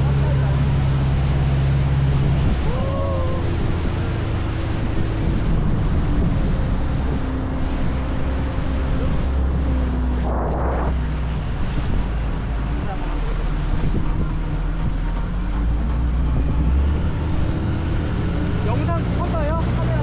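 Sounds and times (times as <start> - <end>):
motorboat engine drone: 0.0 - 20.0
sea: 0.0 - 20.0
wind rumbling on microphone: 0.0 - 20.0.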